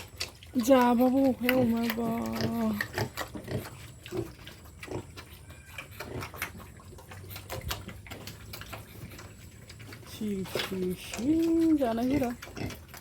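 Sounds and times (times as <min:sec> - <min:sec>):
pigs smacking and slurping: 0:00.0 - 0:13.0.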